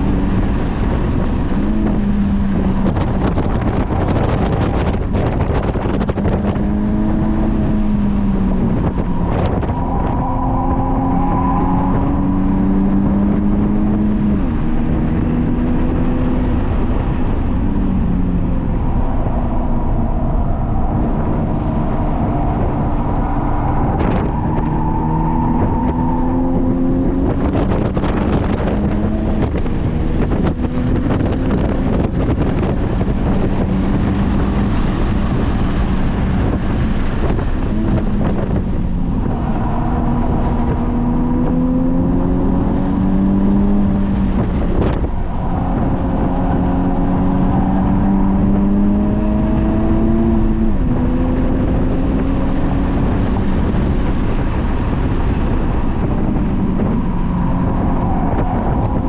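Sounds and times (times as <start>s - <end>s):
car engine accelerating: 0.0s - 59.0s
wind and road noise: 0.0s - 59.0s.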